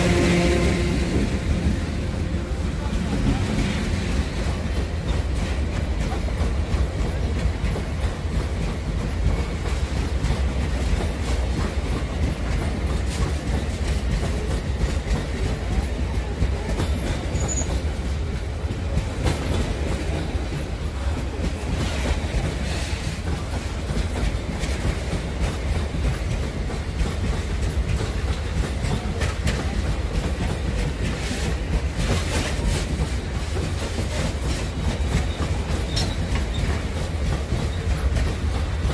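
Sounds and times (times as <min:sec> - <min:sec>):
rumble of train wheels on rail: 0:00.0 - 0:38.9
wheels clacking over rail joints: 0:00.0 - 0:38.9.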